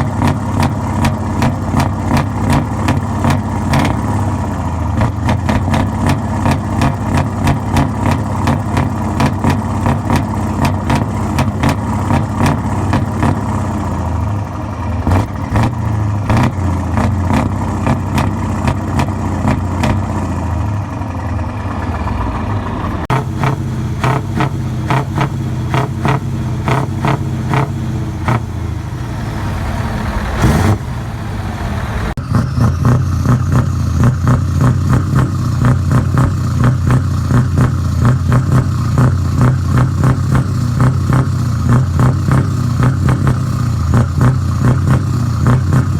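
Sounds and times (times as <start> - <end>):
truck engines revving: 0.0 - 45.9.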